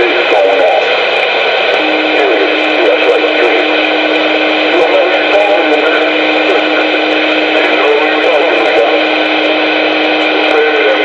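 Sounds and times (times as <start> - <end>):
radio transmission steady low tone: 0.0 - 11.0
warbling garbled radio sounds: 0.0 - 11.0.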